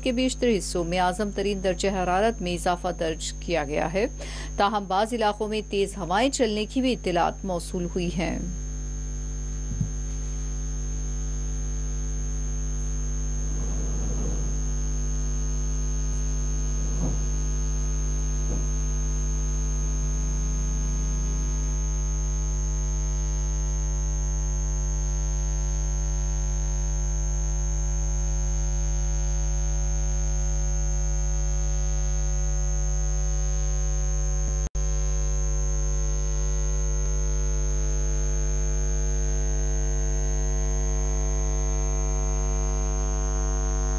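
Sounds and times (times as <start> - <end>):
electrical mains hum: 0.0 - 43.9
thin high whine: 0.0 - 43.9.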